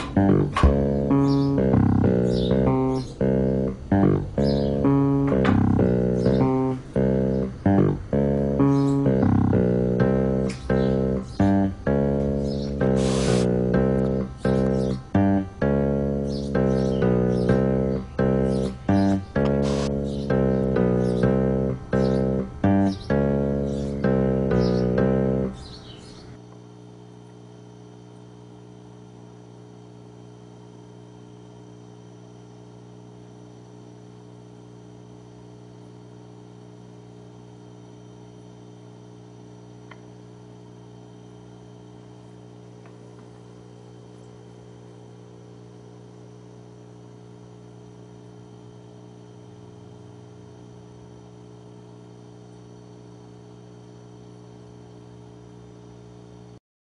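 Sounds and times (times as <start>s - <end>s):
electrical hum with buzz: 0.0s - 56.6s.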